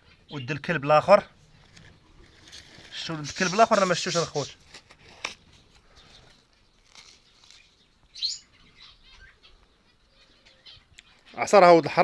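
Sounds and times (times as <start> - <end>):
bird chirp: 0.0 - 4.6, 5.5 - 12.0.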